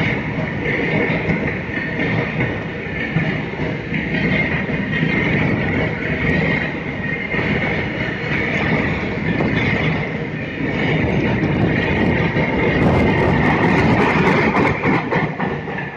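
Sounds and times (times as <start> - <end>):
clickety-clack over rail joints: 0.0 - 15.9
freight train rumbling past: 0.0 - 15.9
high ringing of wheels: 0.0 - 15.9.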